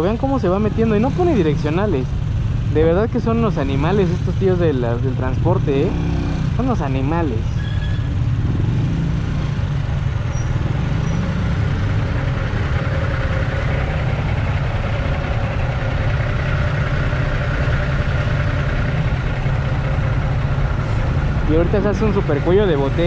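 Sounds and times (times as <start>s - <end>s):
motorcycle engine running steadily: 0.0s - 23.0s.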